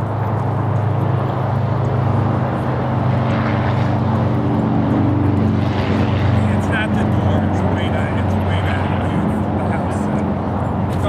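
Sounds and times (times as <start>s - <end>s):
loud engine drone: 0.0s - 11.0s.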